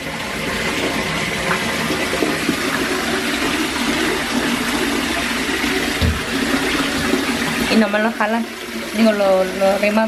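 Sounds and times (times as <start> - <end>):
tap water splashing into tub: 0.0 - 10.0.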